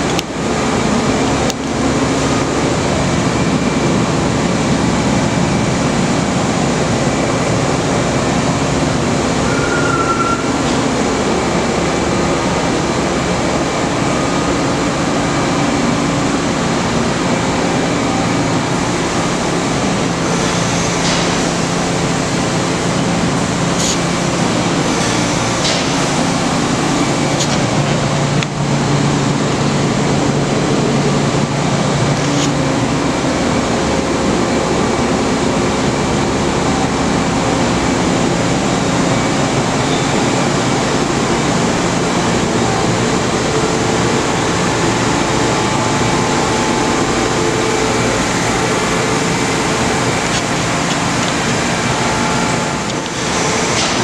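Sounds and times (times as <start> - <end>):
machine shop rushing hum: 0.0 - 54.0.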